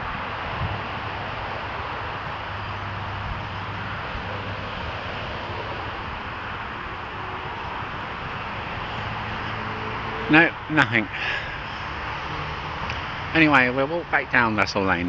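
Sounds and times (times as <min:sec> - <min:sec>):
distant motorway traffic roar: 0:00.0 - 0:15.0.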